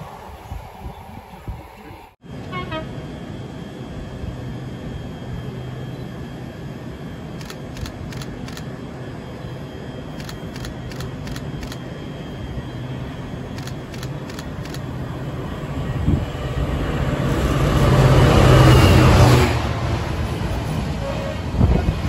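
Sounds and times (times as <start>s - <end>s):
freight train approaching: 0.0s - 22.0s
low hum of trains: 0.0s - 22.0s.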